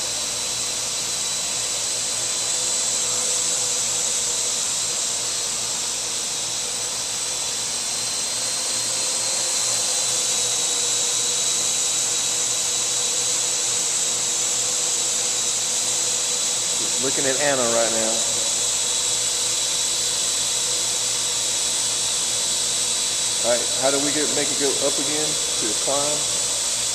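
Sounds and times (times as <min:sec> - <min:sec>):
drone rotors whining: 0:01.5 - 0:26.9.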